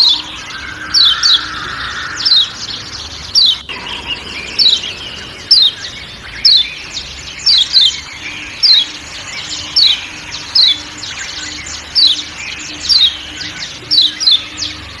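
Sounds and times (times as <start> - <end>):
bird sharp falling calls: 0.0 - 15.0
soft bird twittering: 0.0 - 15.0.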